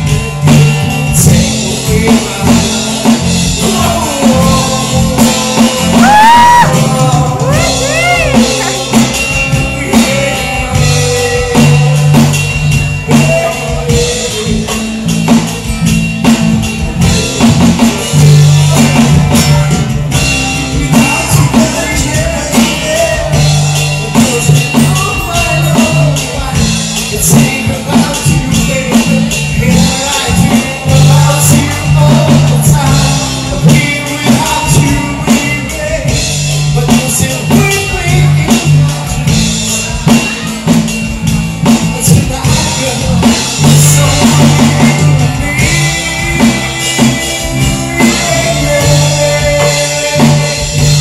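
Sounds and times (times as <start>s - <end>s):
drum kit: 0.0s - 51.0s
electric guitar: 0.0s - 51.0s
man singing amplified: 0.0s - 51.0s.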